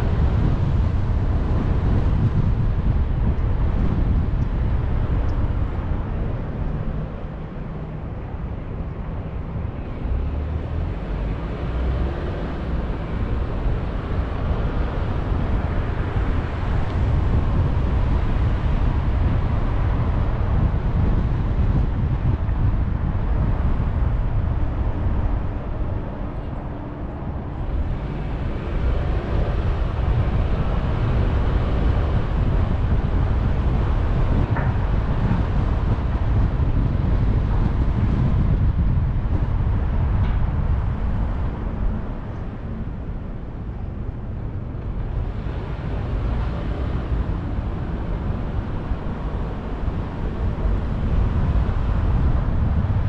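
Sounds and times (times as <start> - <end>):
car road and wind noise: 0.0 - 53.0.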